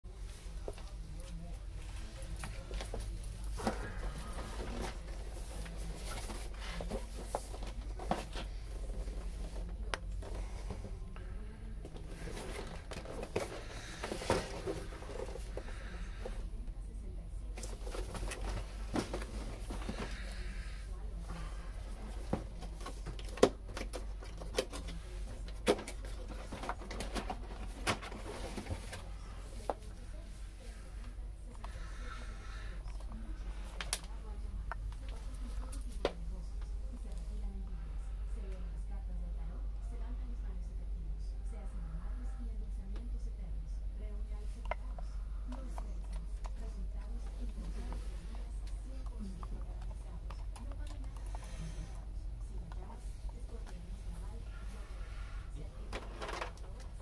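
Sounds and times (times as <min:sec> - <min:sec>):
steady low hum: 0:00.1 - 0:57.0.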